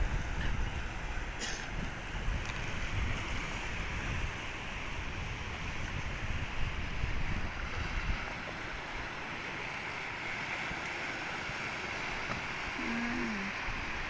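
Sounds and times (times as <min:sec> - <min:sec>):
wind rumbling on microphone: 0:00.0 - 0:10.1, 0:11.5 - 0:14.0
sea waves breaking on beach: 0:00.0 - 0:14.0.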